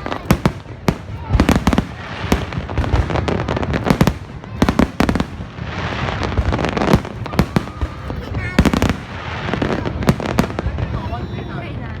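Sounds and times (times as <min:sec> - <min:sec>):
firework shells bursting: 0:00.0 - 0:10.7
firework crackling: 0:00.0 - 0:12.0.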